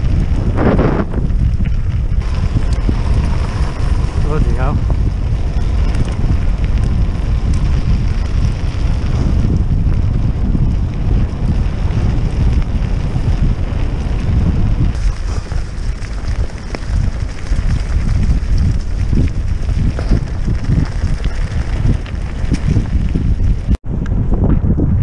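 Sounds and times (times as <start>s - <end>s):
tyres rumbling over gravel: 0.0s - 23.8s
wind buffeting microphone: 0.0s - 25.0s.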